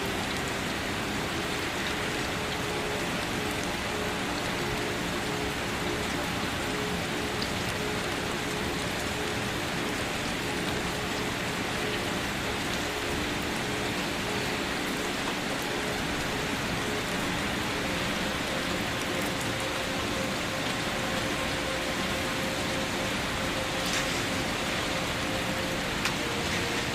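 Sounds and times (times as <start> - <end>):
rain falling: 0.0 - 26.9
raindrops pattering: 0.0 - 26.9.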